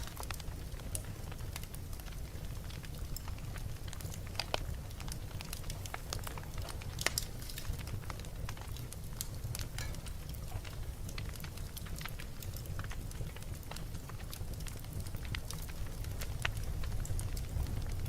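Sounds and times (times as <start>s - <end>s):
fire popping: 0.0s - 18.0s
fireplace fire crackling: 0.0s - 18.0s.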